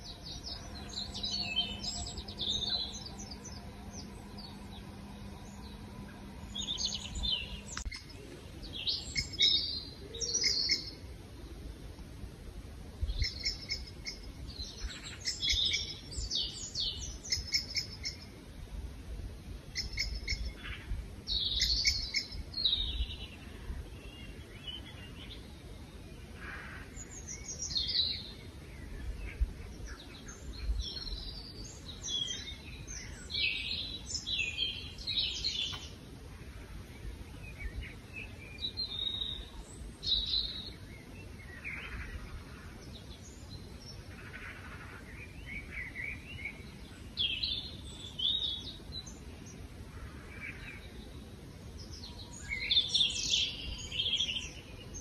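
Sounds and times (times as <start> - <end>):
birds chirping and singing: 0.0 - 11.0, 13.1 - 18.3, 19.8 - 55.0
faint low rumble: 0.0 - 52.3.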